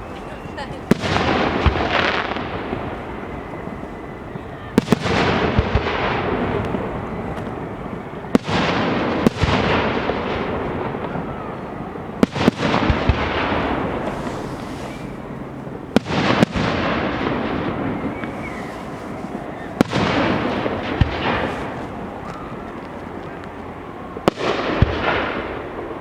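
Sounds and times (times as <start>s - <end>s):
firework bangs: 0.0s - 26.0s
firework crackling: 0.0s - 26.0s.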